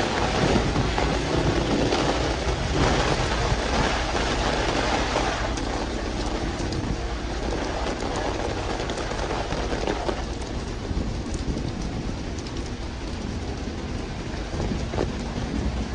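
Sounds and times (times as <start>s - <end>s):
heavy rain on street: 0.0s - 15.9s.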